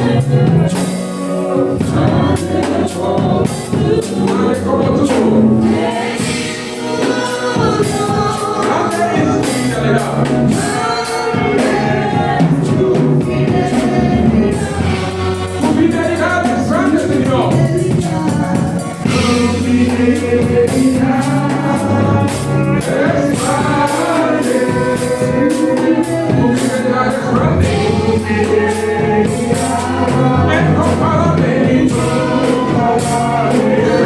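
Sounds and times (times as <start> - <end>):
choir singing gospel song: 0.0 - 34.0
instrumental accompaniment: 0.0 - 34.0
percussion: 0.0 - 34.0.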